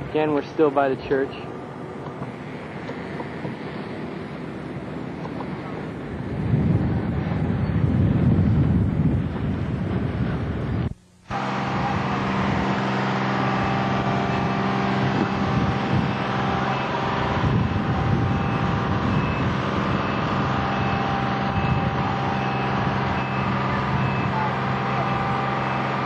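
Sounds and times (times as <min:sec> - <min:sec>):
traffic noise: 0:00.0 - 0:26.0
vehicle engines humming: 0:00.0 - 0:26.0.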